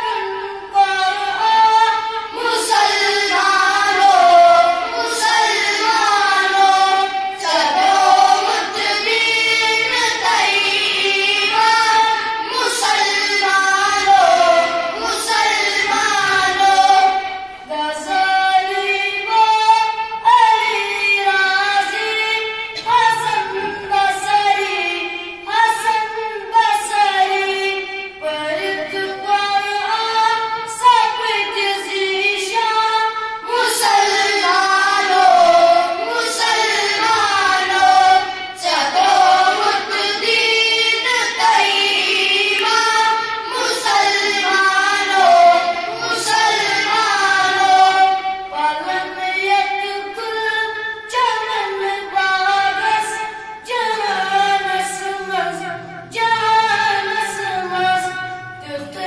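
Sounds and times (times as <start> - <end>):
boys singing: 0.0 - 59.0.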